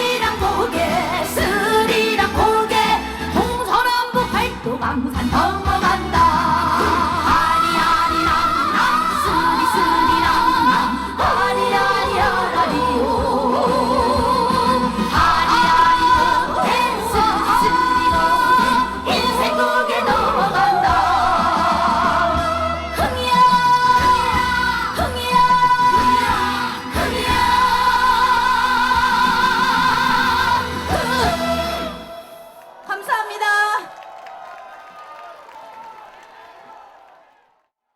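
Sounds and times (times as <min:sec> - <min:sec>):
amplified band backing: 0:00.0 - 0:32.4
woman singing with vibrato: 0:00.0 - 0:33.8.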